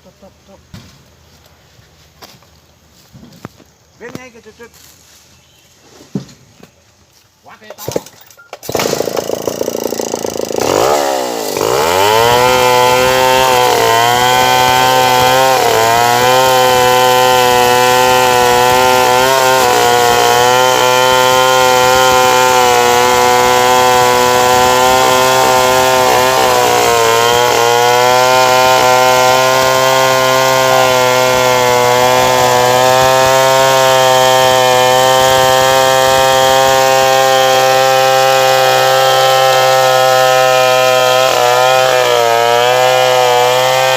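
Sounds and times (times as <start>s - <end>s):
chainsaw cutting wood: 7.9s - 43.9s.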